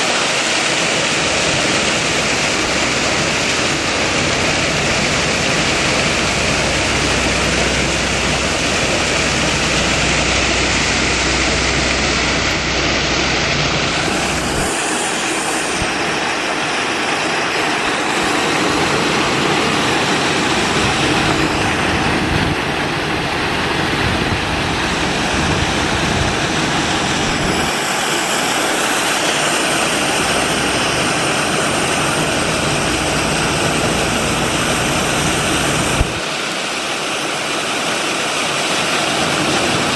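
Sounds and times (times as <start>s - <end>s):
water splashing in a pool: 0.0s - 39.9s.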